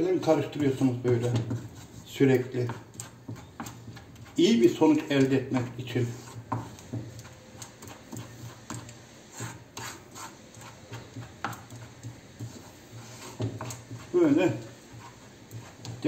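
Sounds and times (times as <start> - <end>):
wooden spoon scraping a pan: 0.0 - 16.0.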